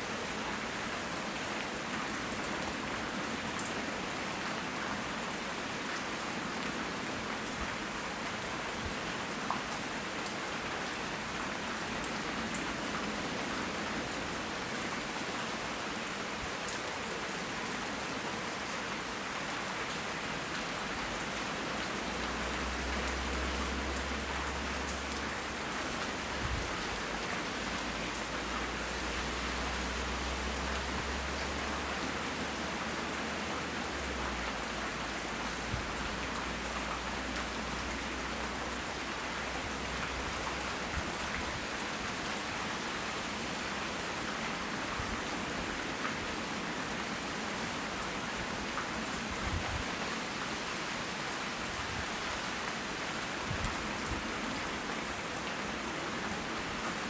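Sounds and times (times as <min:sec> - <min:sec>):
rain pattering: 0:00.1 - 0:57.0.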